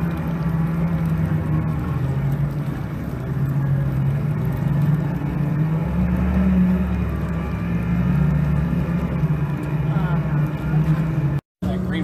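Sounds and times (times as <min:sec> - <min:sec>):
outboard motors running hard: 0:00.0 - 0:12.0.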